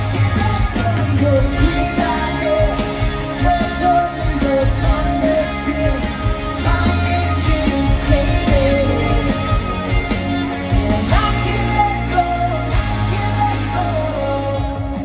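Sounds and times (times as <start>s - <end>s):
heavy bass: 0.0s - 15.0s
lead vocal singing: 0.0s - 15.0s.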